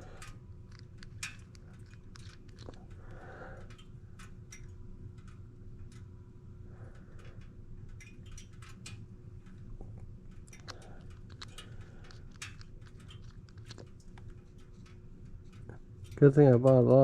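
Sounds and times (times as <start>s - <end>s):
small objects clicking: 0.0s - 6.0s, 7.9s - 16.2s
steady low hum: 0.0s - 17.0s.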